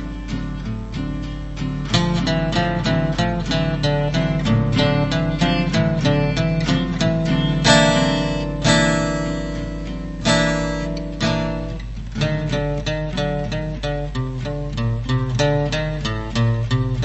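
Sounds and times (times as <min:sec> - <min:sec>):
guitar plucked notes: 0:00.0 - 0:17.0
guitar strummed chords: 0:00.0 - 0:17.0.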